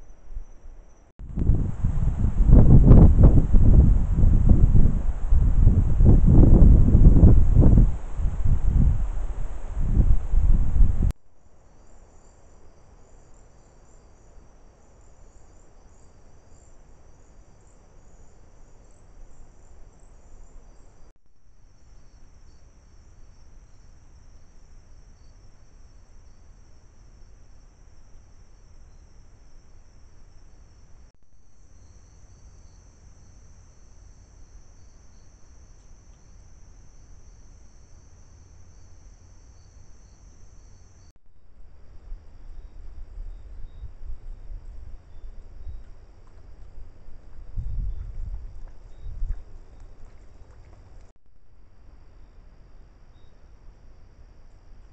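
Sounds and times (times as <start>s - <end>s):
crickets trilling: 0.0s - 41.1s, 41.7s - 54.9s
faint low background noise: 0.0s - 54.9s.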